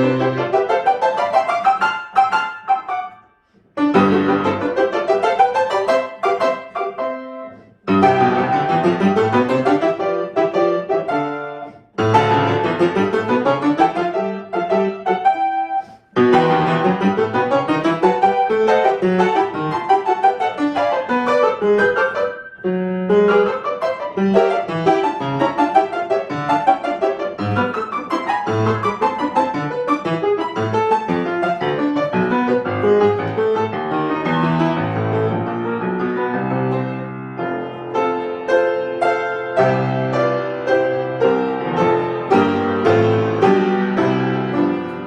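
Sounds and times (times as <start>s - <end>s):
solo piano piece: 0.0s - 45.0s.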